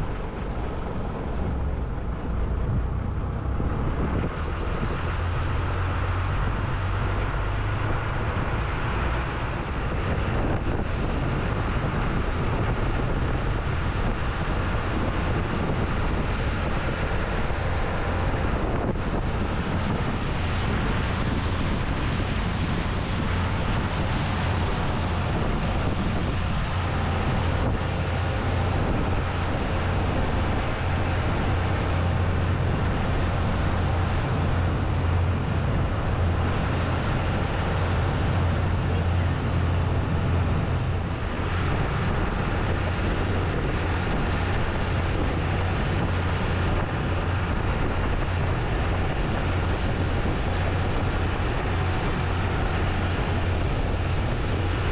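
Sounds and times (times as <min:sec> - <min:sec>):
boat engine running: 0:00.0 - 0:54.9
water rushing: 0:00.0 - 0:54.9
wind buffeting microphone: 0:00.0 - 0:54.9.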